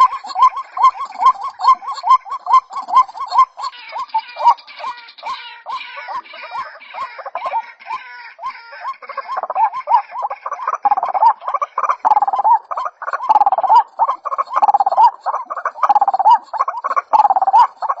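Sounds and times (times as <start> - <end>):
higher harsh bird notes: 0.0 - 18.0
waterhen croaking calls: 0.0 - 18.0.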